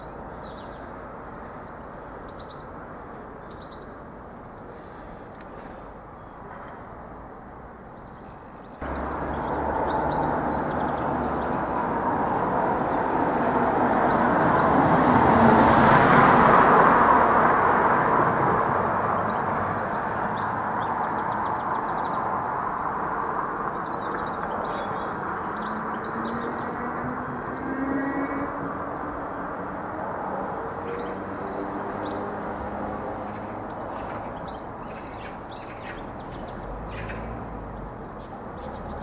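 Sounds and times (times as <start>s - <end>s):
birds chirping: 0.0s - 16.2s, 18.7s - 39.0s.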